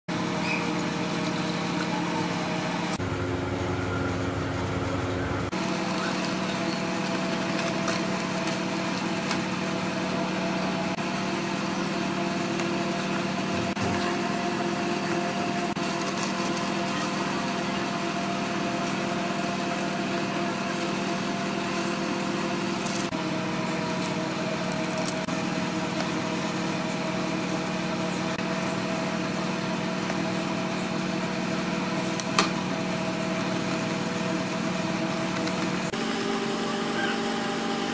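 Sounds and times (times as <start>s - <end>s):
mechanical motor hum: 0.1s - 37.9s.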